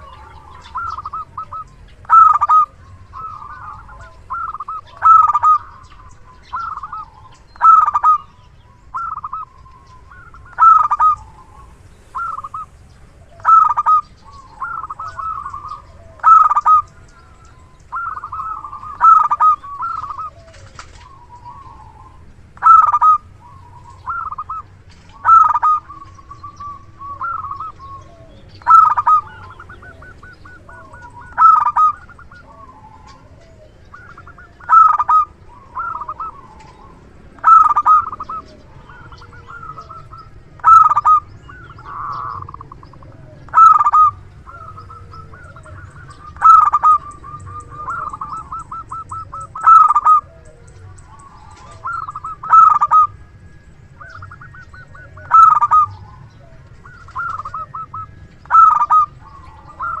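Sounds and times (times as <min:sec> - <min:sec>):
dove cooing: 0:00.0 - 1:00.0
soft rolling trills: 0:00.0 - 1:00.0.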